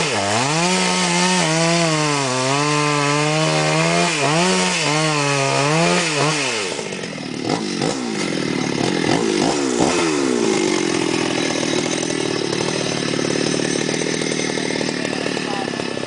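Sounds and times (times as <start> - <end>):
chainsaw cutting timber: 0.0 - 16.0.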